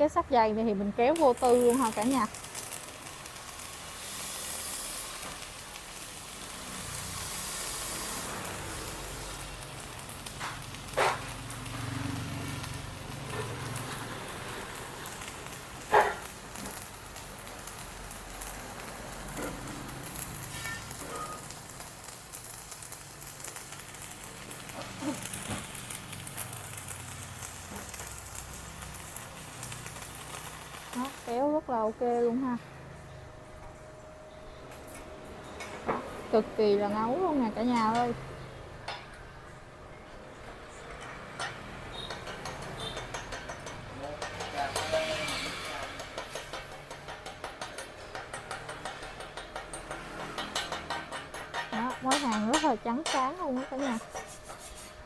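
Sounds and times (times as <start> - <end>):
welding arc crackling sizzle: 0.0 - 39.4, 40.4 - 55.0.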